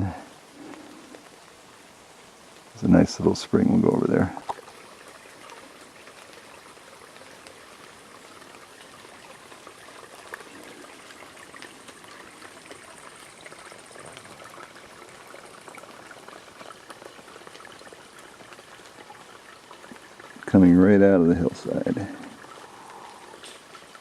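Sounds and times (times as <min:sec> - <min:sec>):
spring water trickling: 0:00.0 - 0:24.0
water dripping: 0:00.0 - 0:24.0.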